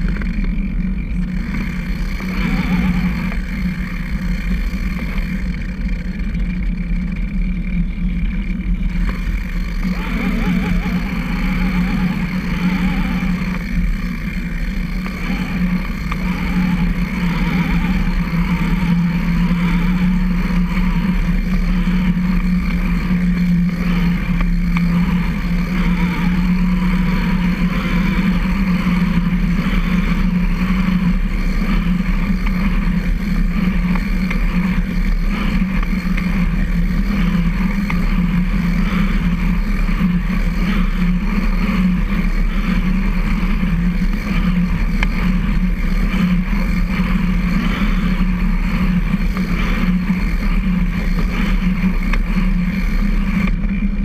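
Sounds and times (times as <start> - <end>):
low rumble: 0.0 - 54.0
tyres and chain humming: 0.0 - 54.0.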